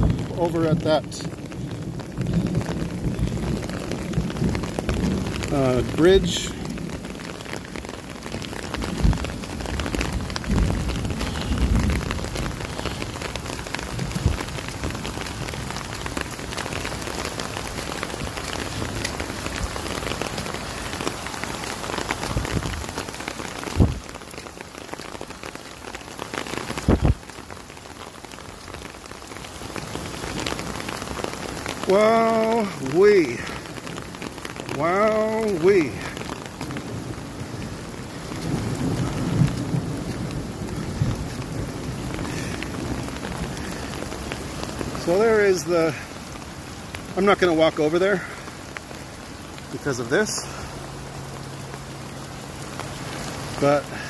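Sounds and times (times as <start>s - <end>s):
floodwater running over ground: 0.0s - 54.0s
steady rain falling: 0.0s - 54.0s.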